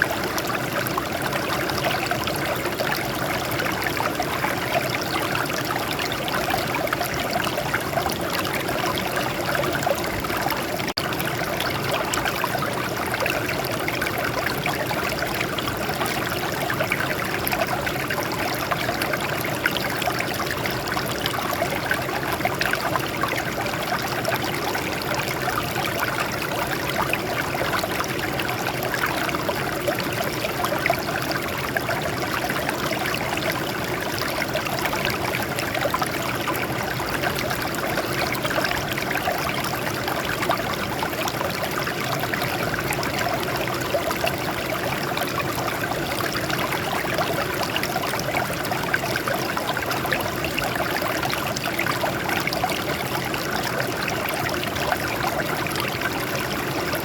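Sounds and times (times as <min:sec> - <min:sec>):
water flowing over rocks: 0:00.0 - 0:57.0.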